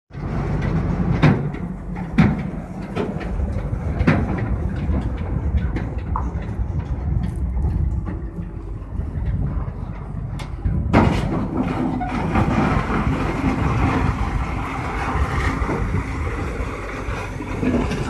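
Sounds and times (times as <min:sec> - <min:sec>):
excavator engine running: 0:00.1 - 0:18.0.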